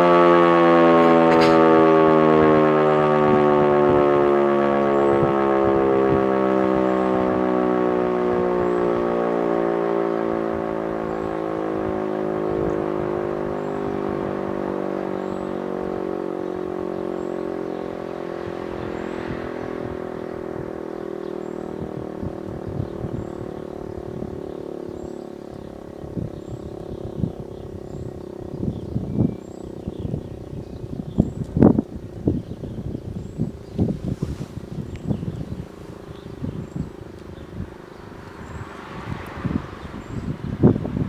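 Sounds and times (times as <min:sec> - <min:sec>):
civil defence siren winding down: 0:00.0 - 0:41.0.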